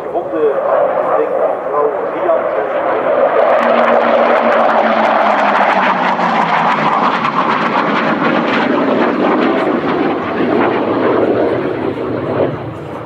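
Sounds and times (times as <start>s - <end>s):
jet fighter flying past: 0.0s - 13.0s.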